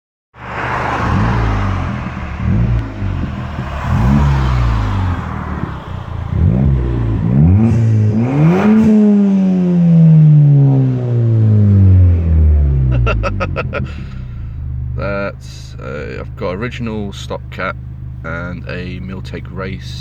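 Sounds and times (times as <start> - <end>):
car engine revving: 0.4 - 20.0.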